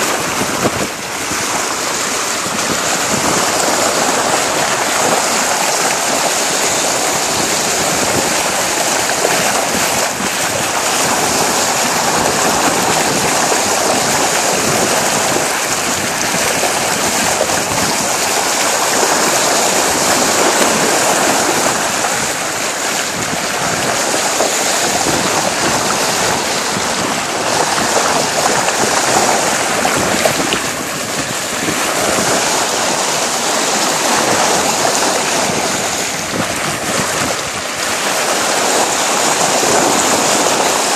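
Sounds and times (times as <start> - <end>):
water rushing along a hull: 0.0 - 40.9.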